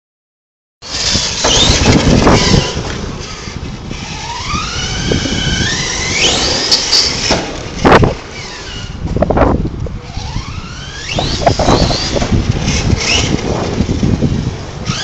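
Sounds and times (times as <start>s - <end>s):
electric motor whining: 0.8s - 15.0s
loud rough noise: 0.8s - 15.0s.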